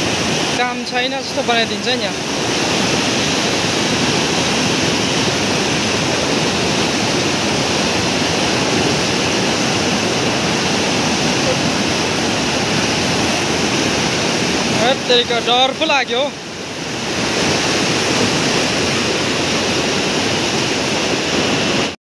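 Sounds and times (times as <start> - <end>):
river rushing over boulders: 0.0 - 22.0.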